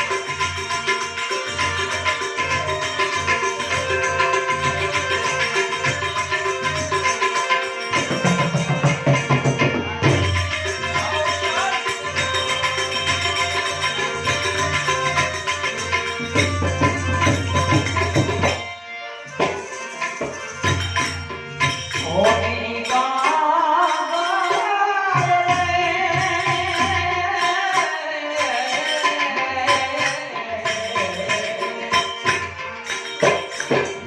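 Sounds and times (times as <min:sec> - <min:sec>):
steady percussion beat: 0:00.0 - 0:27.7, 0:28.4 - 0:34.0.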